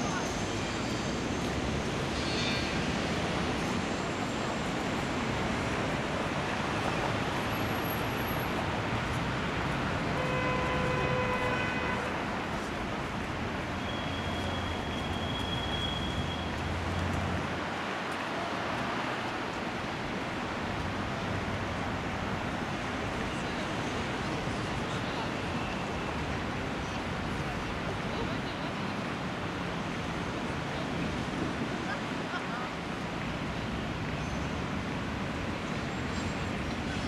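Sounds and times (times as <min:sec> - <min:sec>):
city traffic noise: 0:00.0 - 0:37.0.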